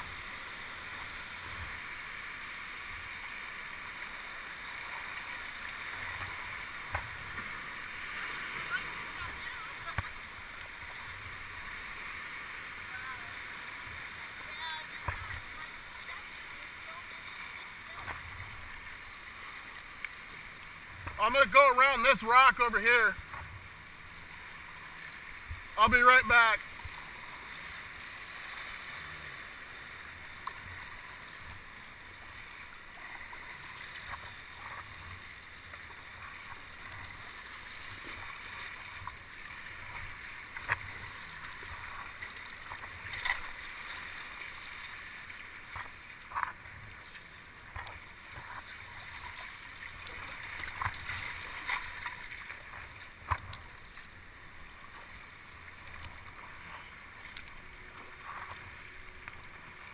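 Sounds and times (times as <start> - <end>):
paddle splashes: 0.0 - 59.9.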